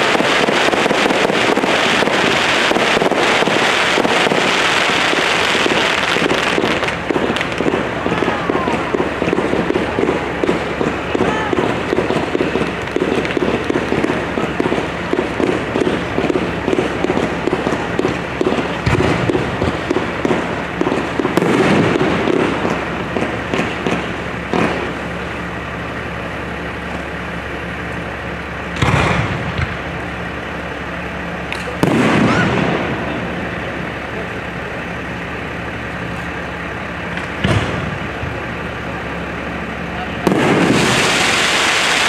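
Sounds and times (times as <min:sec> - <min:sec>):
fireworks crackling and banging: 0:00.0 - 0:42.0.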